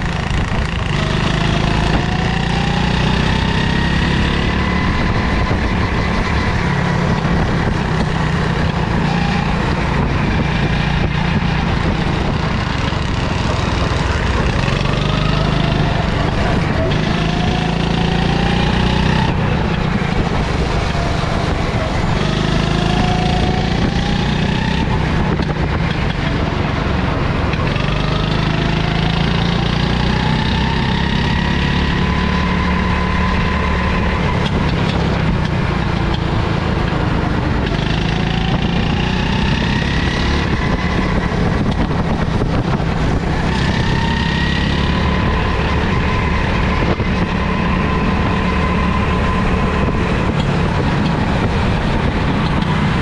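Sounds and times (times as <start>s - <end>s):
go-kart engine revving: 0.0s - 53.0s.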